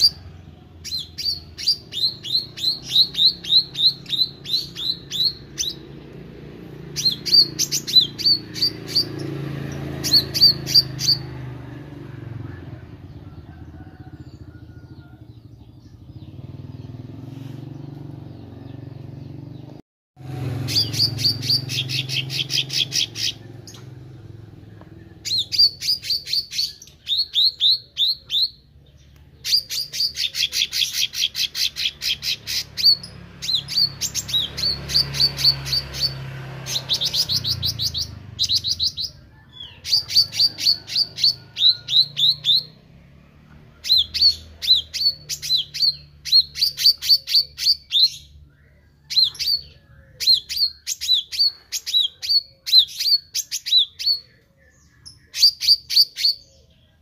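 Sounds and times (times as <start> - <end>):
songbird chirping rapidly: 0.0 - 57.0.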